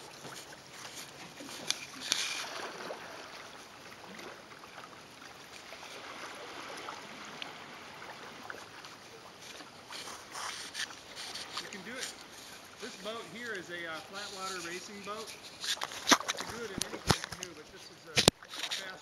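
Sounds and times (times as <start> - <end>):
paddle splashing water: 0.0 - 19.0.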